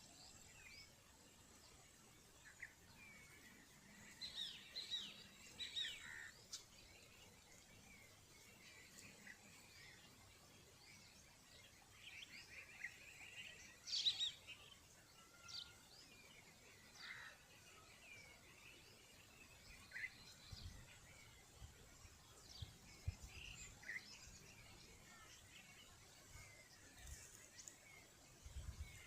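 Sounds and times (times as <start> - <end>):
faint bird chirps: 0.0 - 29.0.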